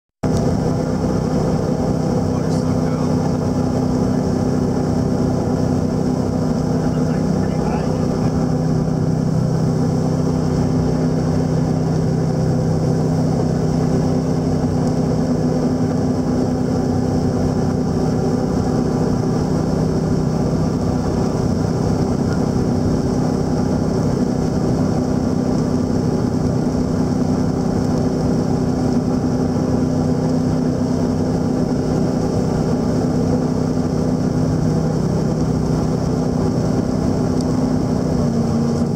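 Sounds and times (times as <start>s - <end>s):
boat engine drone: 0.2s - 38.9s
water rushing: 0.2s - 38.9s.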